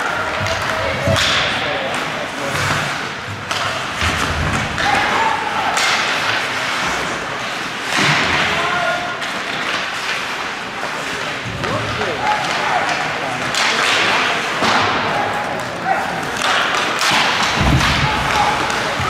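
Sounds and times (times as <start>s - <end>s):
puck and sticks knocking boards: 0.0s - 19.0s
skates scraping ice: 0.0s - 19.0s.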